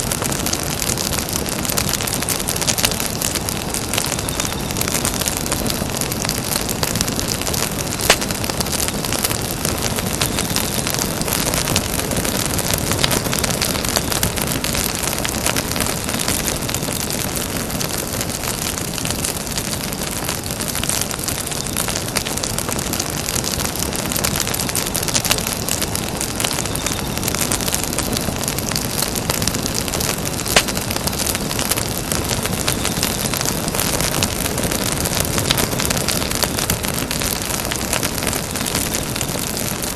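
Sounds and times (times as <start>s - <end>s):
campfire crackling: 0.0s - 39.9s
loud fire pops: 0.0s - 39.9s.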